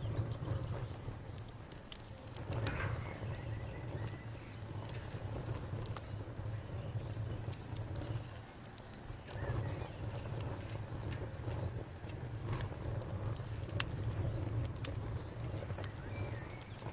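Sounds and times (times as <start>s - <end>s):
cricket chirping: 0.0s - 12.5s, 13.1s - 16.9s
low steady rumble: 0.0s - 16.9s
wood fire crackling and popping: 0.0s - 16.9s.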